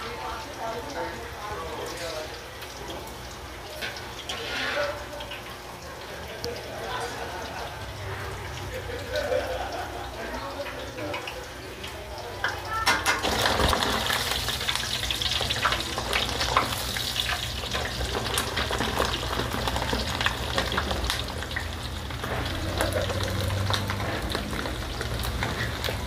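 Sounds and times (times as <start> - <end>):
hot oil sizzling and crackling: 0.0 - 26.0.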